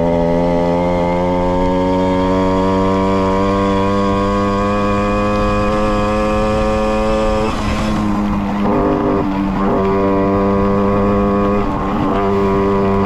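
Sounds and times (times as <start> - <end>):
moped engine revving: 0.0 - 13.0.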